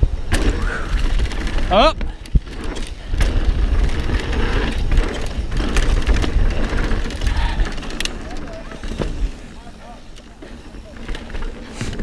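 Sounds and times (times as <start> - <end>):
bike rattling: 0.0 - 12.0
tyres rolling over dirt: 0.1 - 12.0.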